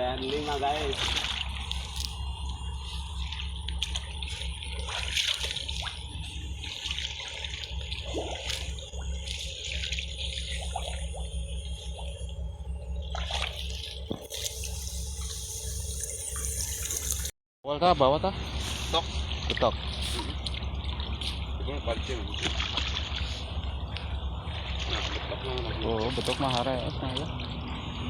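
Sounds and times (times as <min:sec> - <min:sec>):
water splashing and sloshing: 0:00.0 - 0:17.3, 0:18.4 - 0:28.0
steady low hum: 0:00.0 - 0:28.0.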